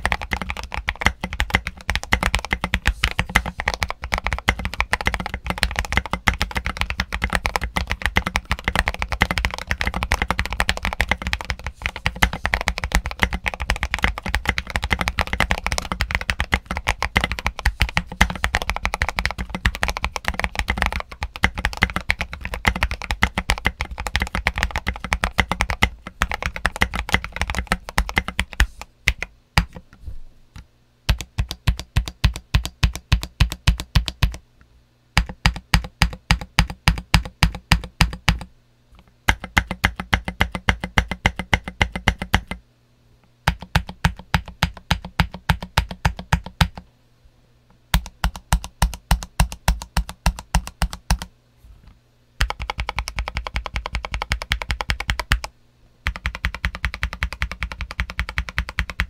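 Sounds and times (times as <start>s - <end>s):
mechanical keyboard typing: 0.0s - 29.9s, 31.1s - 34.4s, 35.2s - 38.5s, 39.3s - 42.6s, 43.5s - 46.8s, 48.0s - 51.3s, 52.4s - 59.0s.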